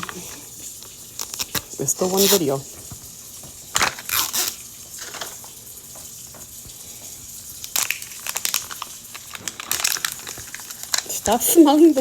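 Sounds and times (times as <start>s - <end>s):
wrapping crinkling and tearing: 0.0s - 5.6s, 7.4s - 12.0s.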